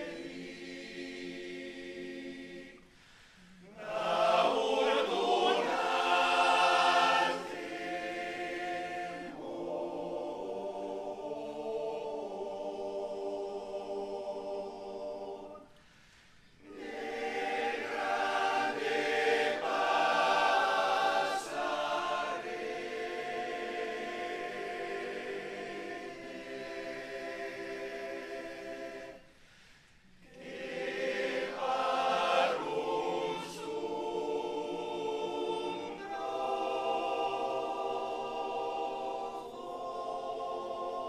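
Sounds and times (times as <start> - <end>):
male choir singing a cappella: 0.0 - 15.8, 16.6 - 29.6, 30.2 - 41.0.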